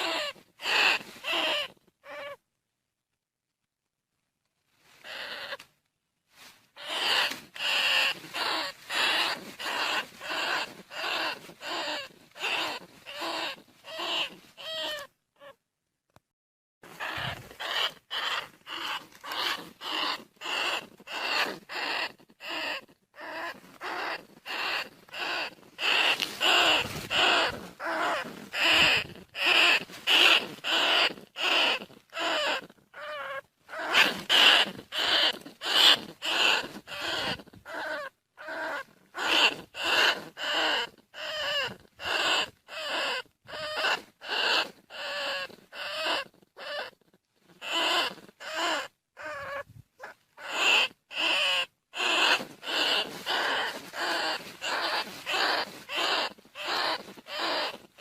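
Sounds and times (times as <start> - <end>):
short squeaky rat calls: 0.0 - 2.4, 5.0 - 5.6, 6.8 - 15.6, 16.9 - 47.0, 47.6 - 58.0.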